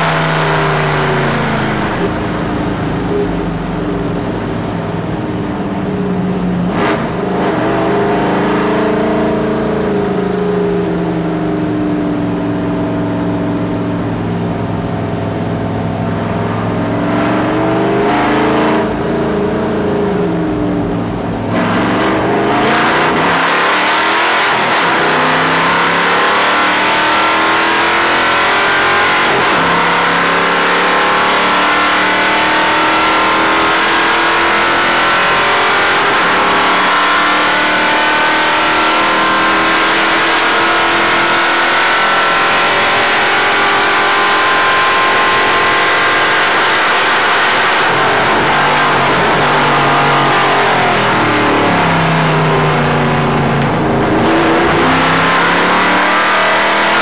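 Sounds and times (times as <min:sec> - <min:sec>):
racing car engine at high revs: 0:00.0 - 0:57.0.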